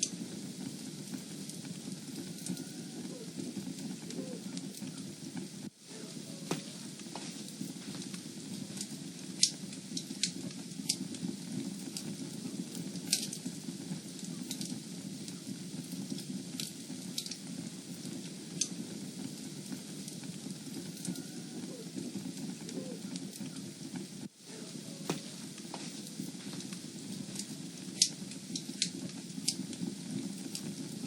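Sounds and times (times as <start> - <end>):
burning wood crackling and popping: 0.0 - 31.0
rush of flames: 0.0 - 31.0.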